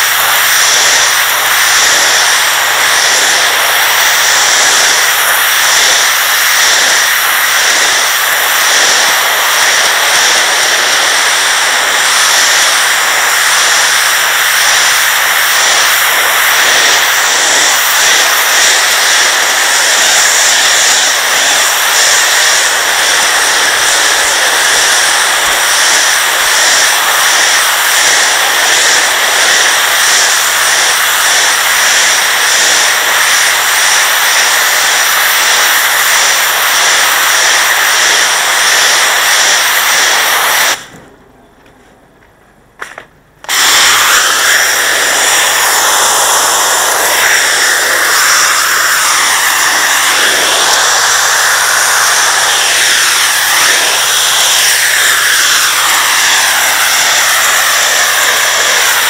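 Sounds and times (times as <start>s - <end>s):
pressure washer jet spraying: 0.0s - 41.0s, 43.4s - 59.0s.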